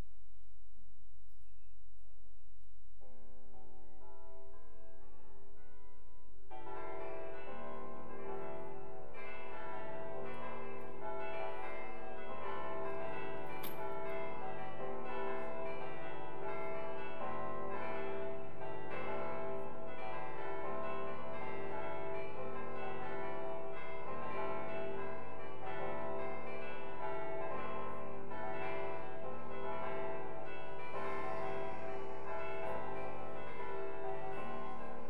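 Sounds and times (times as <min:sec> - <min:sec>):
bells ringing a peal: 0:06.5 - 0:35.0.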